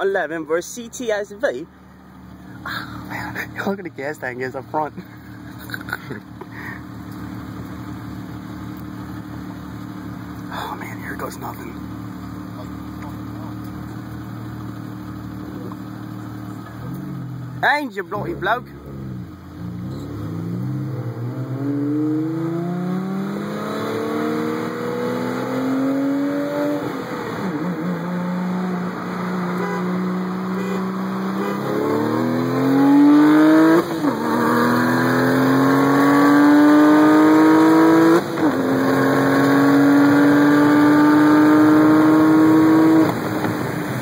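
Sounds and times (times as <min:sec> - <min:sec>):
car engine under full throttle: 0:00.0 - 0:44.0.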